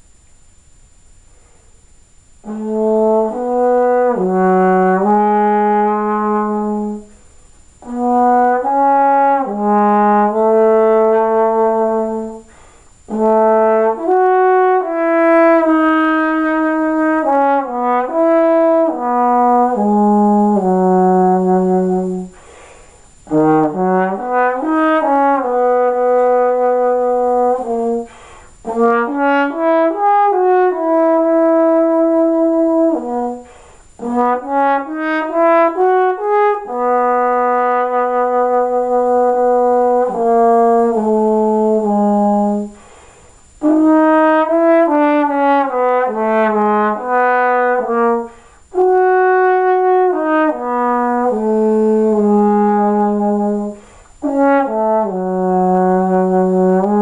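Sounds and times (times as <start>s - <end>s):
solo trombone sliding notes: 2.2s - 57.0s.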